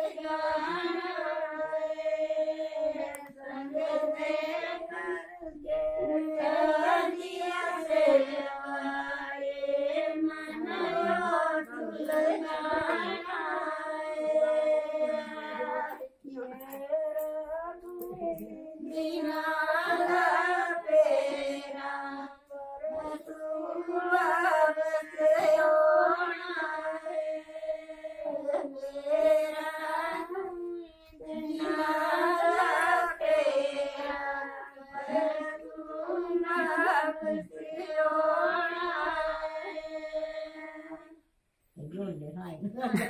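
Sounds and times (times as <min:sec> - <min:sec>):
women singing unaccompanied: 0:00.0 - 0:43.0.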